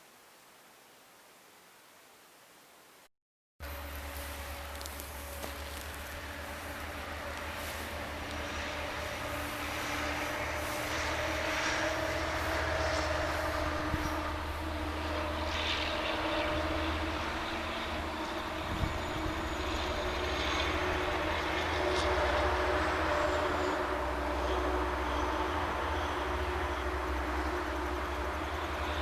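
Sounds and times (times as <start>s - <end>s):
diesel locomotive engine droning: 3.6s - 29.0s.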